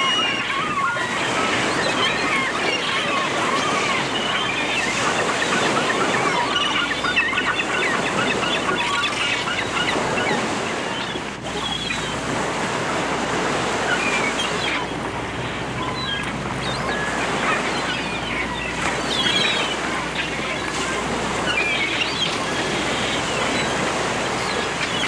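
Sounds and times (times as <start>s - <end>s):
gulls calling: 0.0s - 25.0s
sea waves washing on shore: 0.0s - 25.0s.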